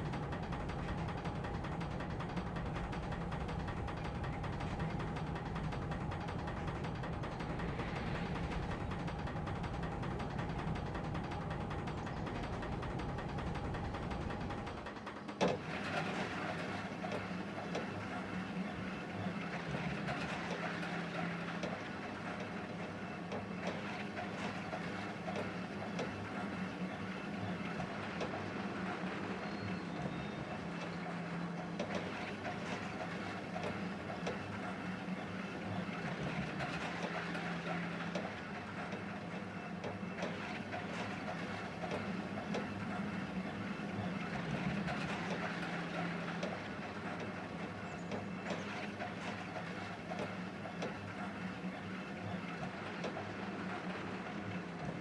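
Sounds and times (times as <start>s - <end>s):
rail vehicle rumbling on track: 0.0s - 55.0s.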